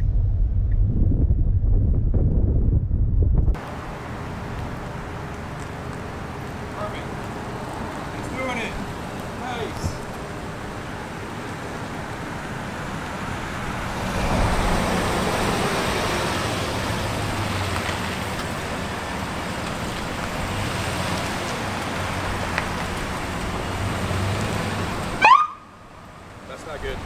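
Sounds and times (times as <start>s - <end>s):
car engine humming: 0.0s - 27.0s.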